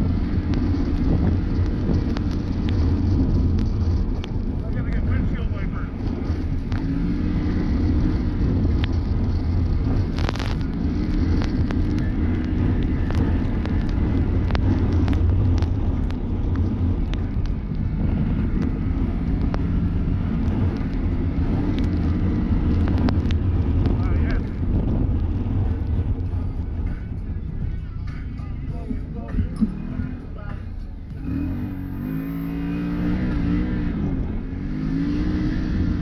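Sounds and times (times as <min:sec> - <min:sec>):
engine revving: 0:00.0 - 0:36.0.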